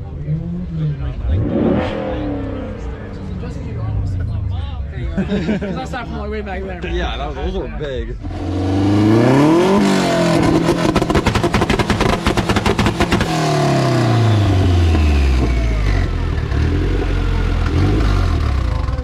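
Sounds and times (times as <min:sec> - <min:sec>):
car engine revving: 0:00.0 - 0:06.5, 0:08.1 - 0:19.0.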